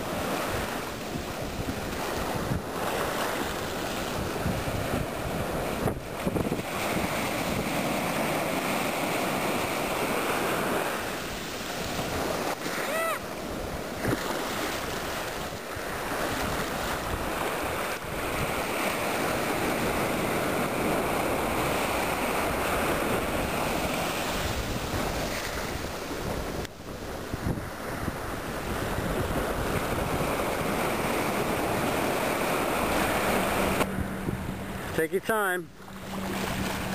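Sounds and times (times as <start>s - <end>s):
wind buffeting microphone: 0.0s - 12.7s, 13.4s - 35.0s
ocean surf breaking: 0.0s - 36.9s.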